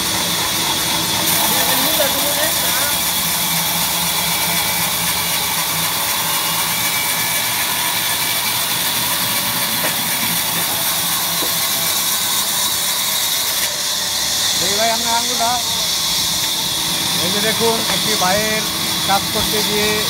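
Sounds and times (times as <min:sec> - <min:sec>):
band saw cutting log: 0:00.0 - 0:20.0.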